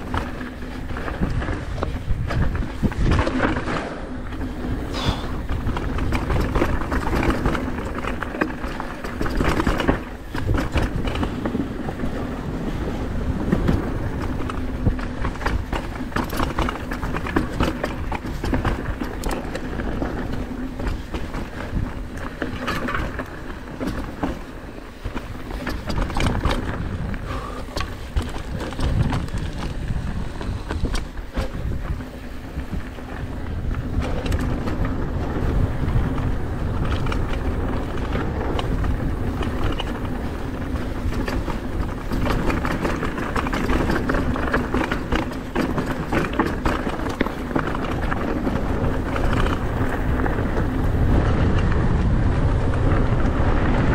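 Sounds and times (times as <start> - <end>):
bike rattling clicks and knocks: 0.0 - 53.9
tyres rumbling over dirt and rocks: 0.0 - 53.9.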